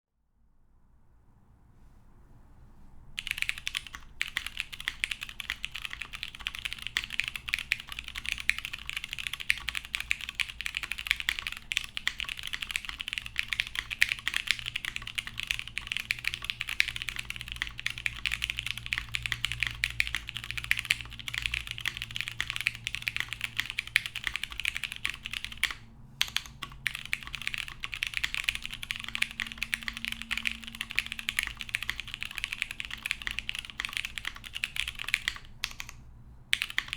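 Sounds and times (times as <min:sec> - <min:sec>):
fast typing on mechanical keyboard: 0:03.2 - 0:36.9.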